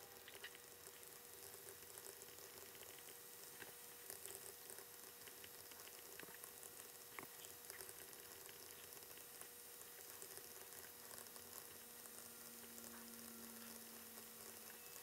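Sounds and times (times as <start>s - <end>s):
faint steady hum: 0.0s - 15.0s
low hiss: 0.0s - 15.0s.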